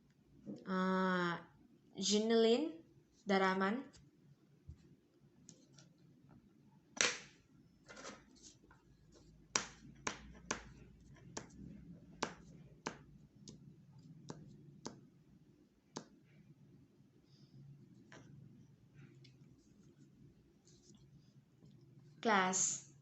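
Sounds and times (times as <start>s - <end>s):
faint low room hum: 0.0s - 23.0s.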